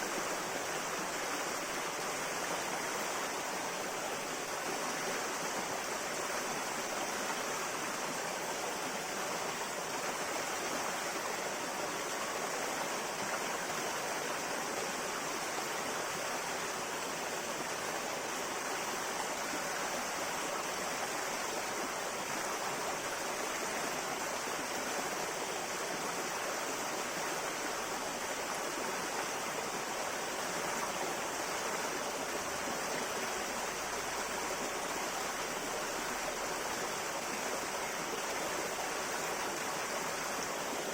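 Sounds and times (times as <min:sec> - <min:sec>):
river running over rocks: 0:00.0 - 0:40.9.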